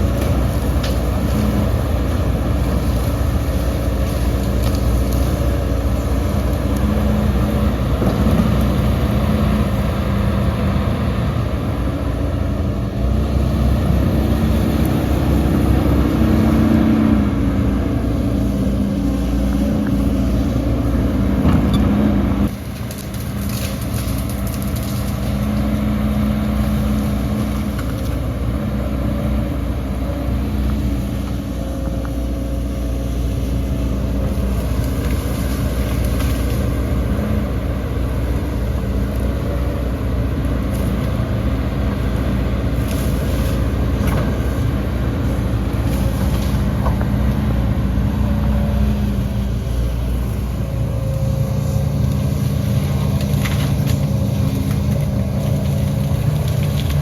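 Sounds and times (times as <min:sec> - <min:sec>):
diesel machinery engine working: 0:00.0 - 0:57.0.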